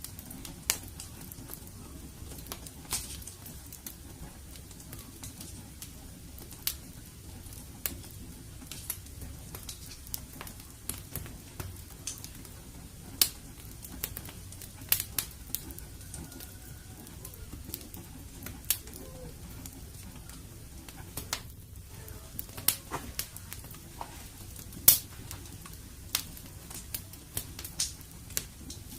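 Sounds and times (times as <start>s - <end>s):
fire crackling and popping: 0.0s - 28.9s.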